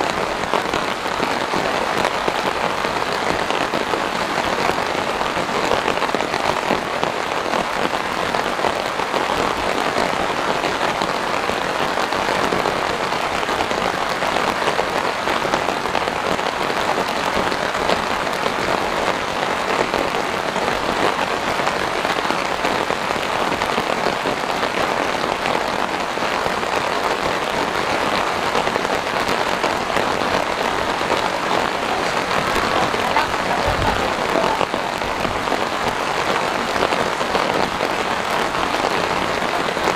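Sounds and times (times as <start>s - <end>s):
rain pattering on plants: 0.0s - 39.9s.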